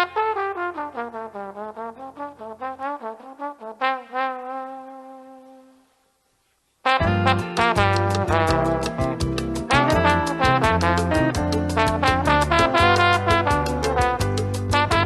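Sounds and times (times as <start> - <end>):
brass-led dance band: 0.0 - 5.8, 6.8 - 15.0
solo trombone: 0.0 - 6.1, 6.8 - 15.0.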